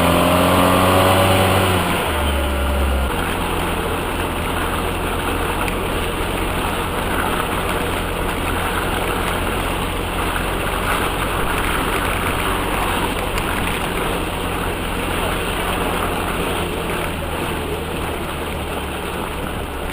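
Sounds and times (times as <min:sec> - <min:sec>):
vehicle engine running steadily: 0:00.0 - 0:19.9.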